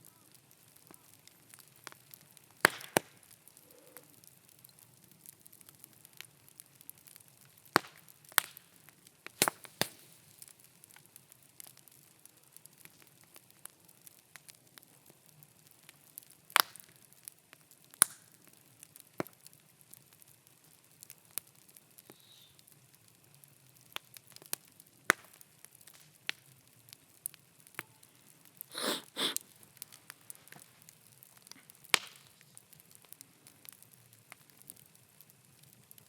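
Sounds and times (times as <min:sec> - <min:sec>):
bonfire burning: 0:00.0 - 0:36.0.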